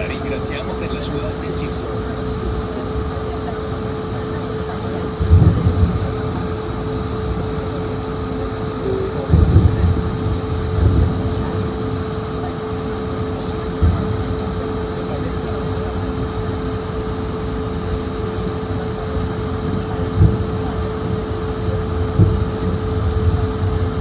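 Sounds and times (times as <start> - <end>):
airplane cabin hum: 0.0 - 24.0.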